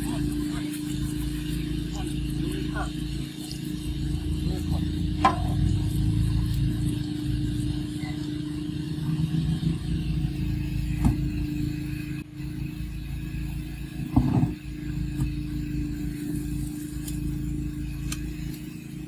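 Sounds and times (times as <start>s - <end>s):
motor running: 0.0s - 19.0s.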